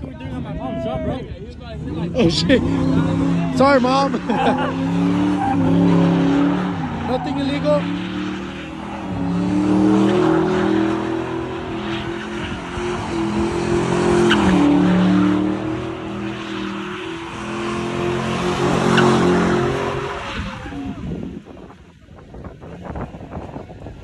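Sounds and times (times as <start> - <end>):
car engine revving high: 1.7 - 21.4
tyres screeching on pavement: 1.8 - 21.1.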